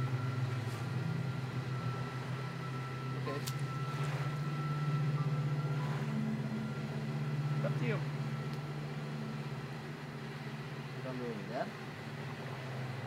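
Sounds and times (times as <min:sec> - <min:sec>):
engine idling hum: 0:00.0 - 0:13.0
high whine: 0:00.0 - 0:13.0.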